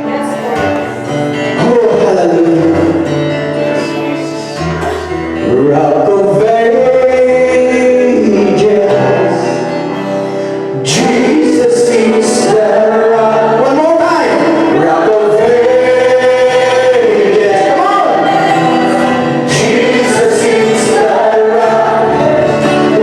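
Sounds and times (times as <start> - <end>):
instrumental backing music: 0.0 - 23.0
man singing: 0.0 - 23.0.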